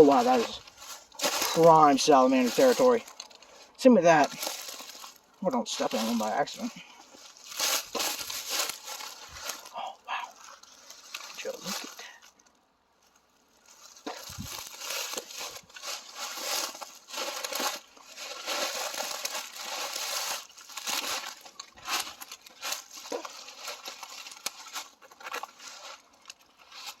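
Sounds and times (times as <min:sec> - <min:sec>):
footsteps in dry leaves: 0:00.0 - 0:27.0.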